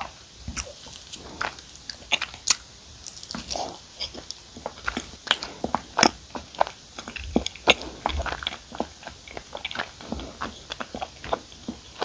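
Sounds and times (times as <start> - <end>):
mouth chewing with smacks: 0.0 - 12.0.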